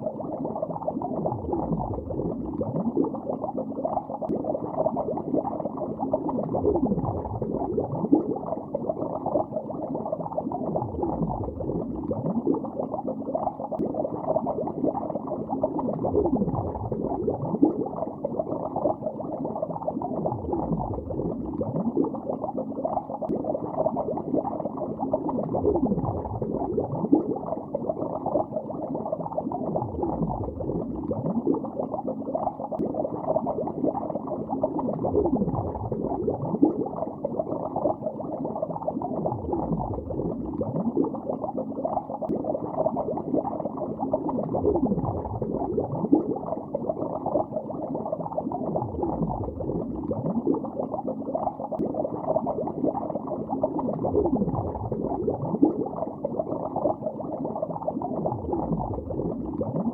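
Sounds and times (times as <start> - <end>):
muffled underwater bubbling: 0.0 - 59.9.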